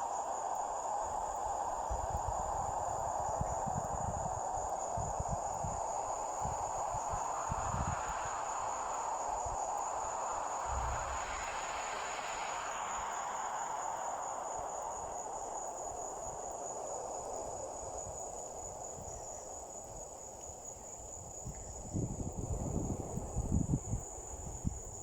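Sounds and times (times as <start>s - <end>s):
insects trilling: 0.0s - 25.0s
rushing hiss: 0.0s - 25.0s.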